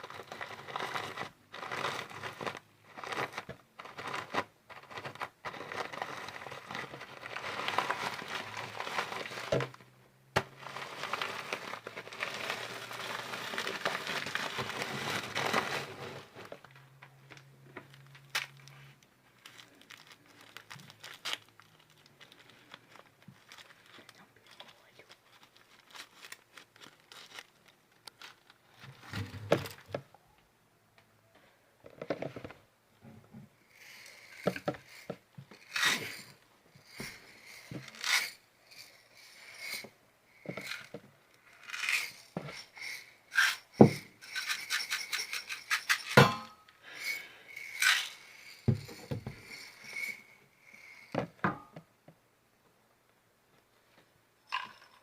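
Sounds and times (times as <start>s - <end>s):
rubbing and scraping objects: 0.0s - 30.1s, 31.8s - 51.7s.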